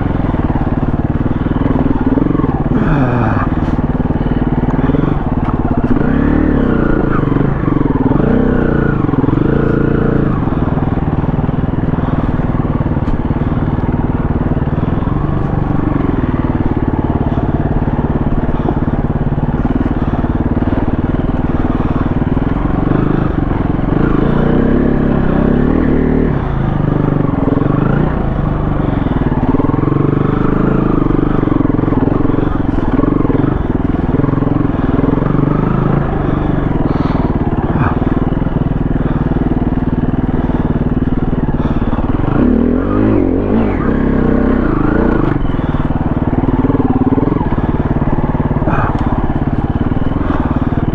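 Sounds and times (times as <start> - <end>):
dirt bike engine running: 0.0 - 50.9.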